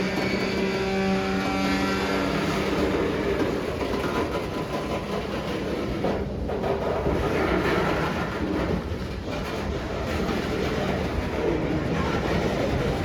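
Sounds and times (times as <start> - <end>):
train wheels clattering on rails: 0.0 - 13.0.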